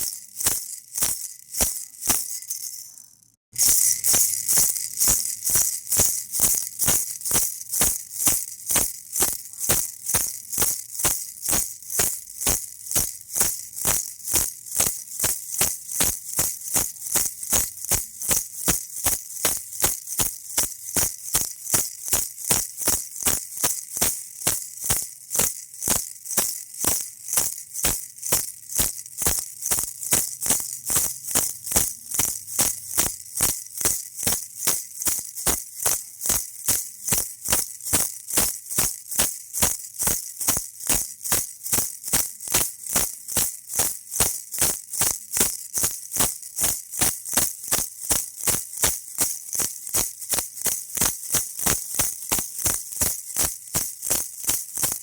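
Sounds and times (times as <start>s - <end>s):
baby rattle shaking: 0.0s - 55.0s.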